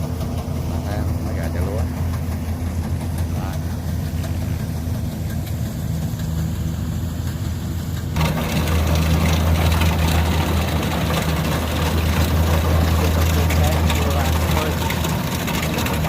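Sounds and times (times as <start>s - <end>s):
broad rushing noise: 0.0s - 16.0s
diesel engine humming: 0.0s - 16.0s.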